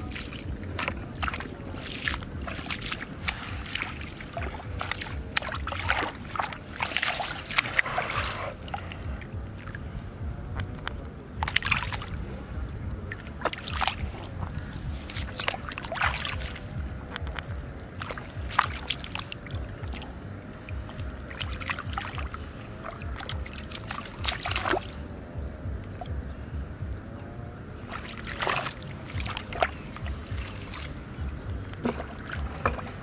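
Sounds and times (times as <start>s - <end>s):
hands splashing in muddy water: 0.0s - 9.8s, 11.4s - 12.3s, 13.0s - 17.4s, 18.0s - 20.1s, 20.8s - 25.2s, 27.9s - 33.0s
steady low rumble: 0.0s - 33.0s.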